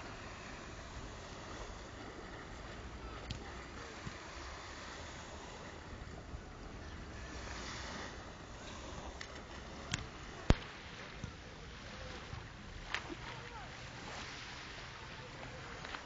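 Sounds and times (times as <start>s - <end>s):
small waves lapping shore: 0.0s - 16.0s.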